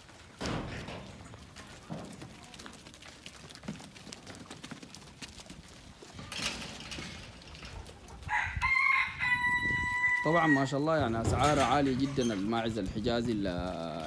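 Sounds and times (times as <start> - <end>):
goat hooves tapping on dirt: 0.0 - 14.0.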